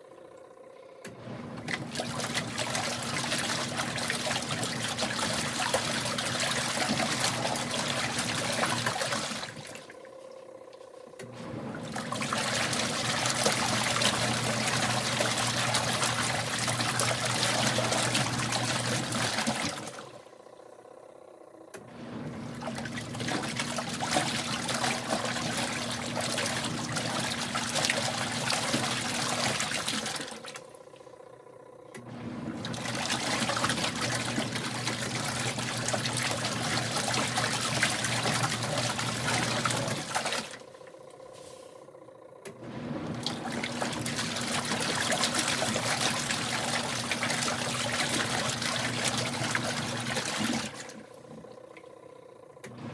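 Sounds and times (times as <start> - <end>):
washing machine motor humming: 0.0 - 52.9
water churning: 1.1 - 20.3, 21.9 - 31.1, 32.0 - 41.7, 42.5 - 52.0, 52.6 - 52.9.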